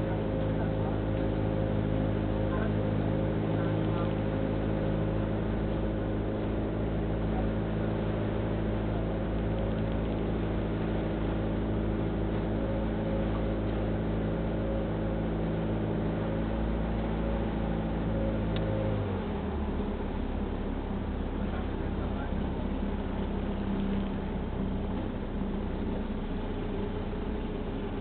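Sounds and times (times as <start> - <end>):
boat engine running: 0.0 - 28.0
water noise: 0.0 - 28.0.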